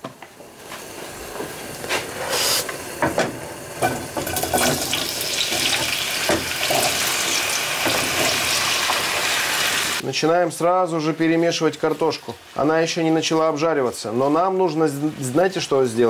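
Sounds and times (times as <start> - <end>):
potatoes sizzling in oil: 0.4 - 16.0.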